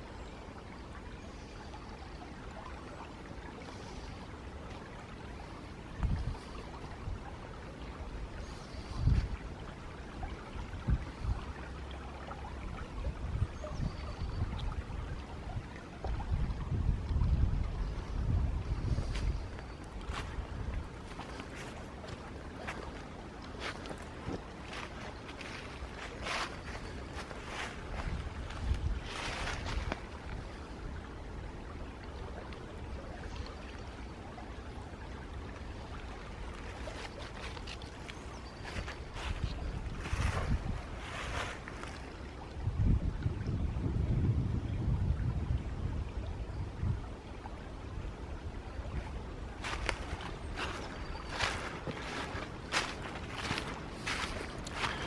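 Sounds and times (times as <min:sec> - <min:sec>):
water trickling in stream: 0:00.0 - 0:55.0
wind rumbling on microphone: 0:03.7 - 0:55.0.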